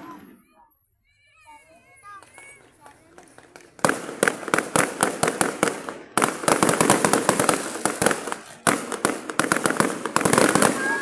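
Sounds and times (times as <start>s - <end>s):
fireworks crackling bangs: 0.0s - 0.5s, 2.0s - 11.0s.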